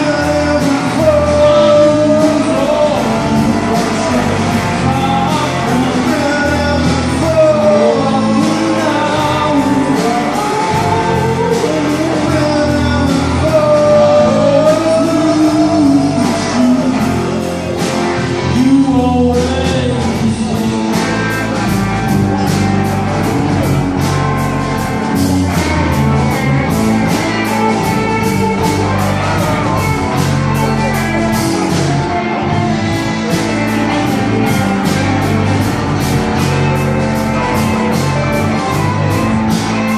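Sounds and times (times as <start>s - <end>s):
person singing: 0.0s - 23.0s, 23.6s - 39.9s
driving drum beat: 0.0s - 39.9s
live band playing blues rock: 0.0s - 39.9s.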